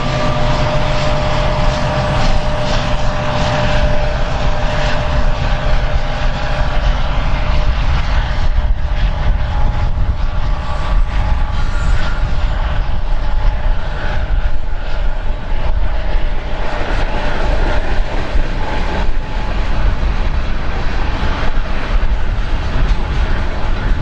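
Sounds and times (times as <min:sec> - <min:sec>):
freight cars rumbling on rails: 0:00.0 - 0:24.0
wind buffeting microphone: 0:00.0 - 0:24.0.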